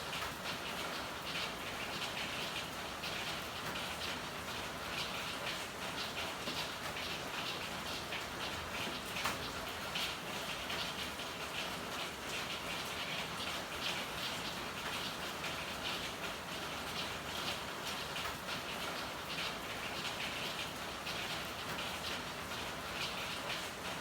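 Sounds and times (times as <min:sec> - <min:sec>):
rain falling on hard surfaces: 0:00.0 - 0:24.0.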